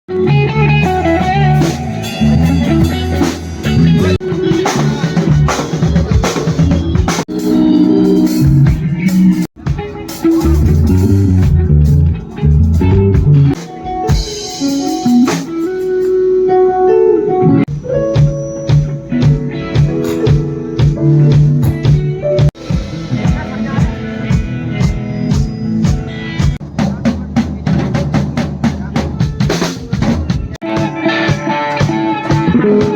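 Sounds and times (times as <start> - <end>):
drum kit: 0.1 - 32.9
electric guitar: 0.1 - 32.9
live band playing: 0.1 - 32.9.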